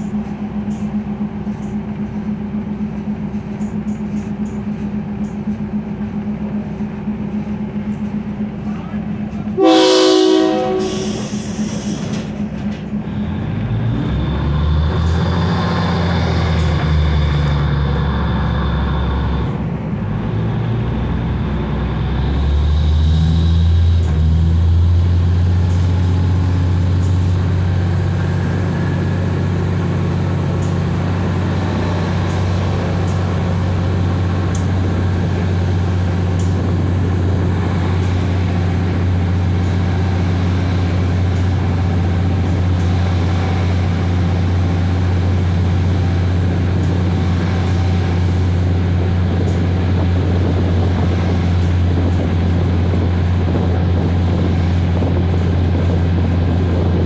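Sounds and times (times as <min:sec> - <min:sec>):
diesel train hum: 0:00.0 - 0:57.0.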